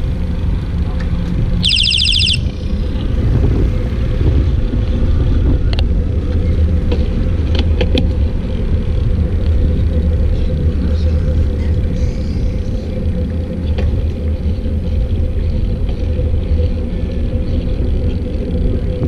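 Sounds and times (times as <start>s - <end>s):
wind and road rumble: 0.0s - 19.0s.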